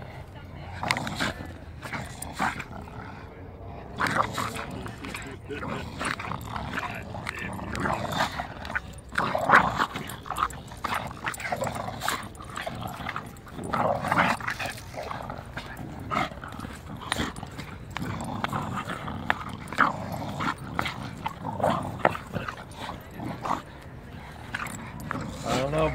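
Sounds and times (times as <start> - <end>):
dogs growling: 0.0 - 25.9.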